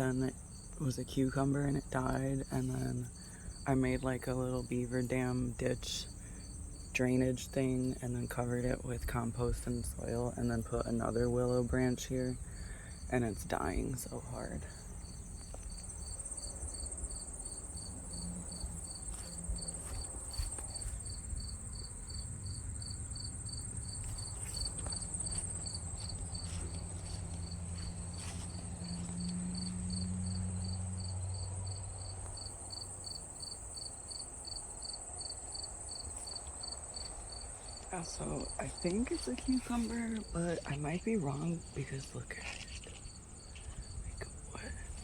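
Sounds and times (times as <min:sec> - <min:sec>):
high-pitched insect trill: 0:00.0 - 0:08.9, 0:09.7 - 0:45.0
cricket chirping: 0:00.0 - 0:45.0.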